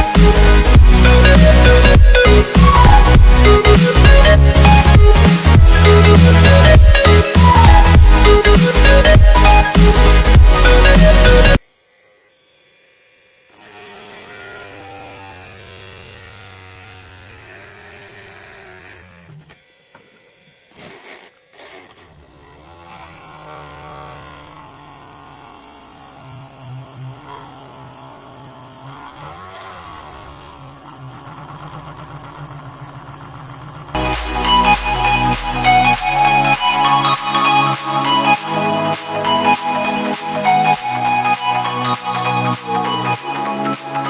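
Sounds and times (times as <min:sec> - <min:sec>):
small motor running: 0:00.0 - 0:42.7.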